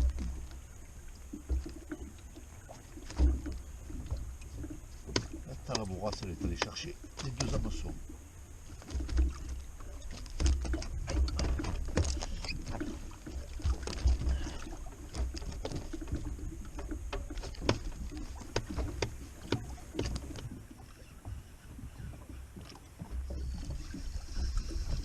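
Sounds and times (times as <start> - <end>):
clicks and knocks on hull: 0.0 - 25.0
rumble of water and wind: 0.0 - 25.0.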